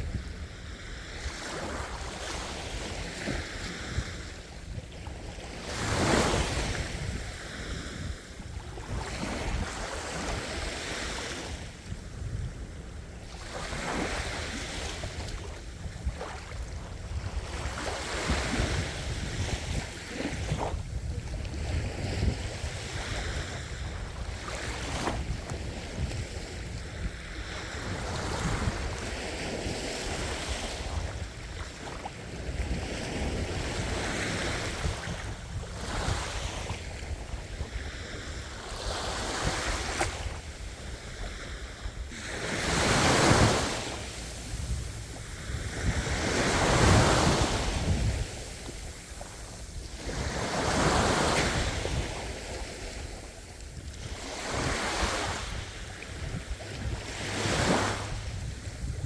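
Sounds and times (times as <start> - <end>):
ocean waves breaking on shore: 0.0 - 59.0
wind rumbling on microphone: 0.0 - 59.0.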